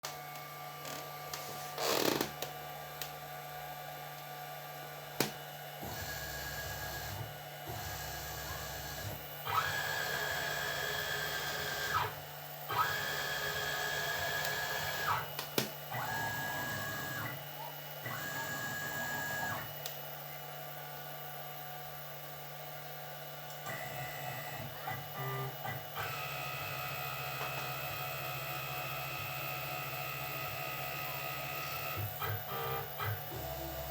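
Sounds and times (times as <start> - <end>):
milling machine motors whining: 4.7 - 33.9.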